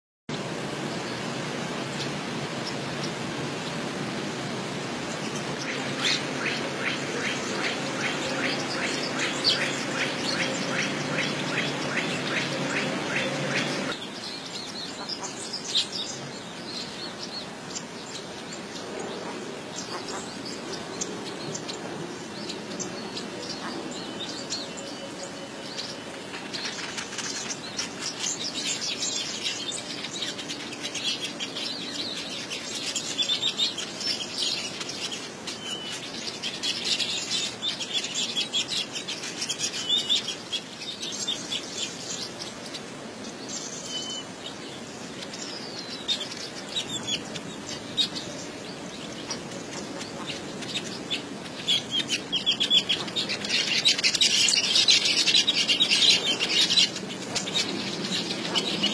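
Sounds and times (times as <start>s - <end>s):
small birds chirping: 0.4s - 58.9s.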